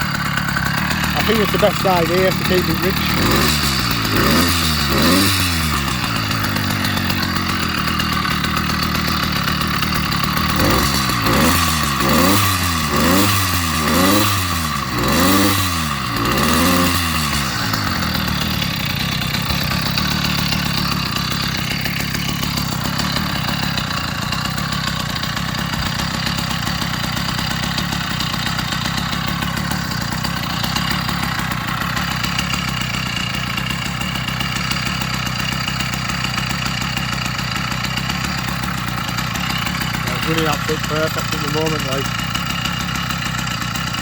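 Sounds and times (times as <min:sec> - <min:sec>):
two-stroke engine blipping and idling: 0:00.0 - 0:44.0.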